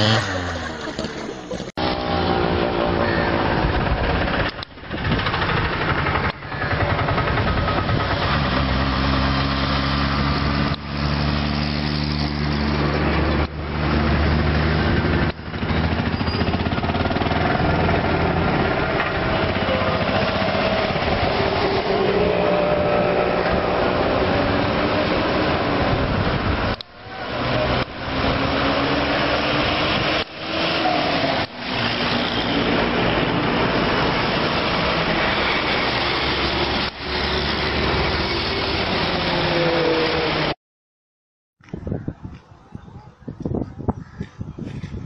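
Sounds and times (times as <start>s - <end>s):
heavy road traffic passing: 0.0s - 40.6s, 41.6s - 45.0s.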